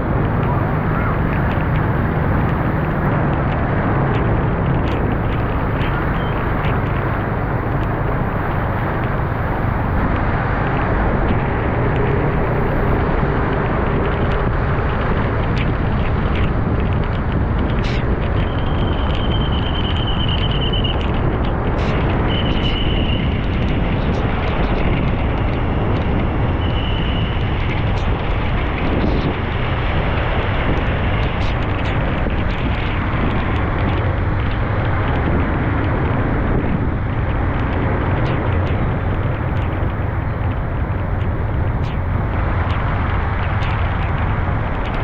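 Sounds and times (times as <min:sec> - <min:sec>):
vehicle driving rumble: 0:00.0 - 0:45.0.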